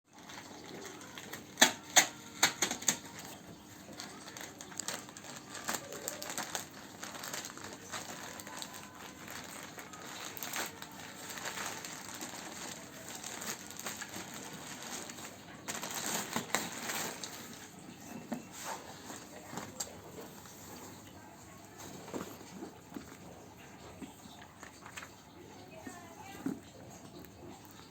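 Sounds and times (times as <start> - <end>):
packaging crinkling and rustling: 0.1 - 27.9.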